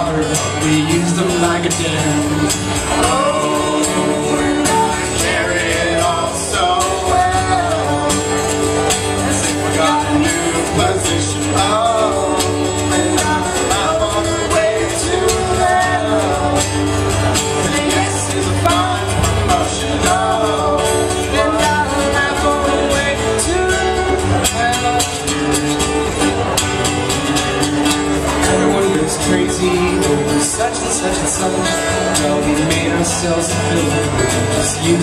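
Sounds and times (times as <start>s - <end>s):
acoustic guitars strumming: 0.0s - 35.0s.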